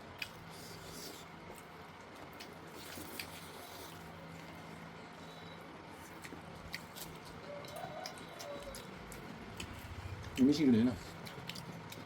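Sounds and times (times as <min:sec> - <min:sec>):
chewing and lip smacks: 0:00.1 - 0:04.7, 0:05.9 - 0:12.0.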